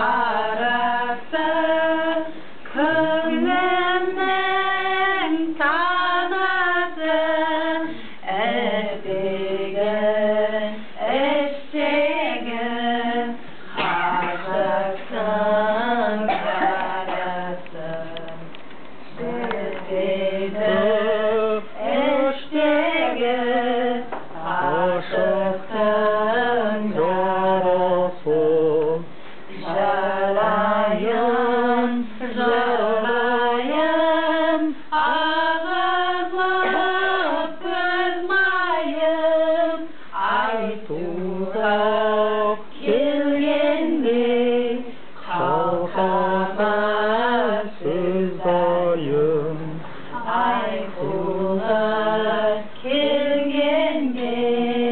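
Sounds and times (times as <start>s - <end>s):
women singing together: 0.0s - 54.9s.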